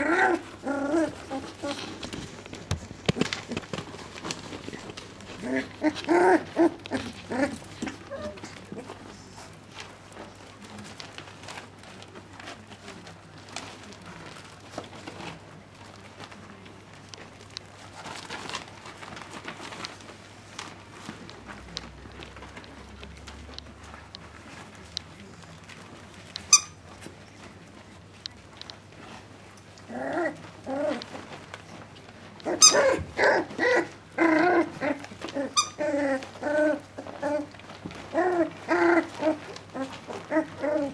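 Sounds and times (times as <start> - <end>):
faint low hum: 0.0 - 40.9
puppies play growling: 0.0 - 40.9
rustling pellet bedding: 0.0 - 40.9.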